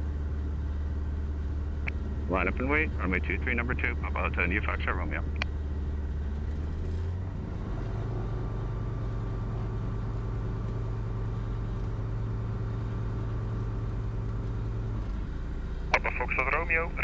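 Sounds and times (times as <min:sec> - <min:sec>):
aircraft engine humming: 0:00.0 - 0:17.0.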